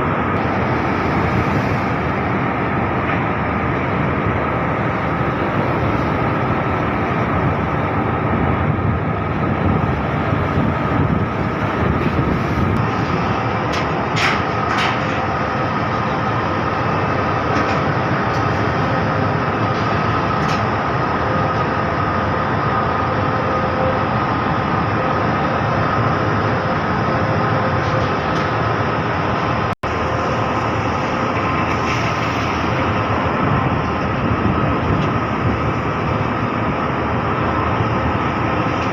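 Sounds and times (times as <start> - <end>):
ship engine rumble: 0.0 - 38.9.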